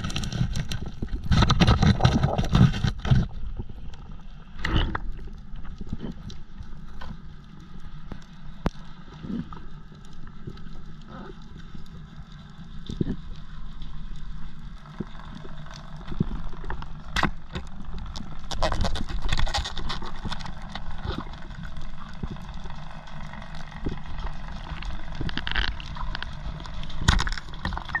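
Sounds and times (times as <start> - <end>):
low rumble of water underwater: 0.0 - 28.0
underwater clicks and crackles: 0.0 - 28.0.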